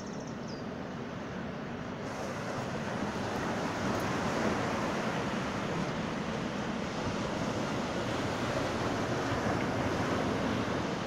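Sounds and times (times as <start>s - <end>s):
small waves washing up shore: 1.0s - 11.0s.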